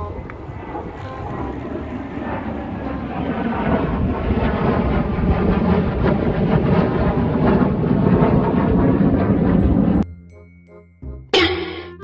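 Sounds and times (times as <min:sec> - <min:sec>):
fighter jet roar: 0:00.2 - 0:10.0.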